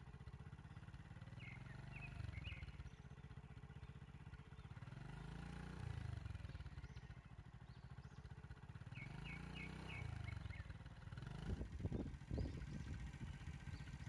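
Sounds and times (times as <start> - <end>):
vehicle engine idling: 0.0 - 14.0
faint bird chirps: 0.3 - 5.1, 5.9 - 14.0.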